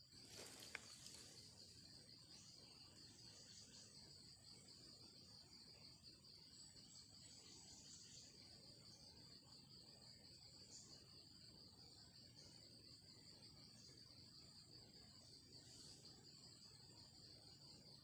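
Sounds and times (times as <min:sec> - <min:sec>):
high-pitched insect trill: 0:00.0 - 0:18.0
insect buzzes: 0:00.0 - 0:18.0.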